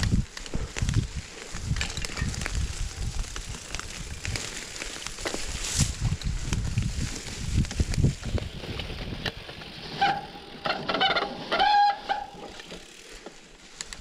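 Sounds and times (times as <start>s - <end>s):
bike clicks and rattles: 0.0s - 14.0s
bike tyres rumbling on dirt: 0.0s - 14.0s.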